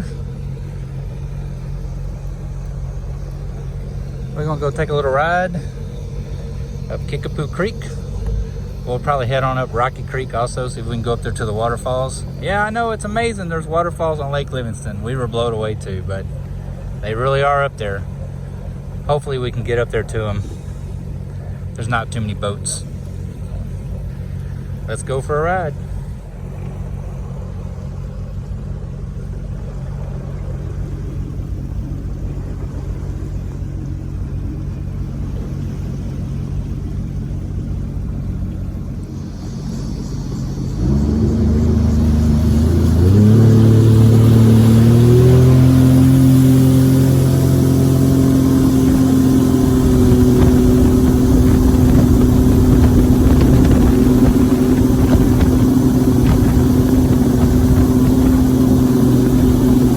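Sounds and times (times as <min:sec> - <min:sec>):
watercraft engine: 0:00.0 - 0:59.9.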